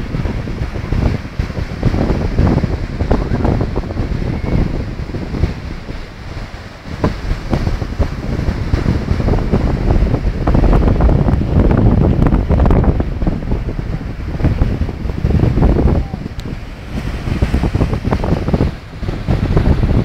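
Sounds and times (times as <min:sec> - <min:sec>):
small waves breaking on shore: 0:00.0 - 0:20.0
wind buffeting microphone: 0:00.0 - 0:20.0.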